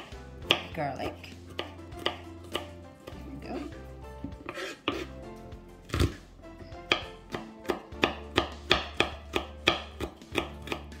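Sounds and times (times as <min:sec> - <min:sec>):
knife chopping on cutting board: 0:00.0 - 0:05.1, 0:05.9 - 0:06.2, 0:06.8 - 0:11.0.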